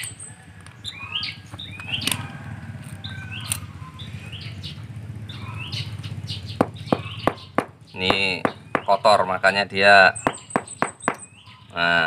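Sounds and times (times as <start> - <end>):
bird chirping: 0.0 - 2.3, 3.0 - 12.0.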